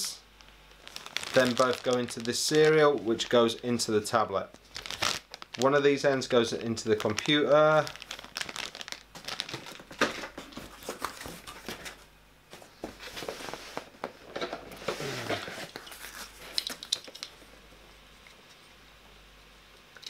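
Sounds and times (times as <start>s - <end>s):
cardboard packaging rustling: 0.4s - 3.8s, 4.5s - 17.2s.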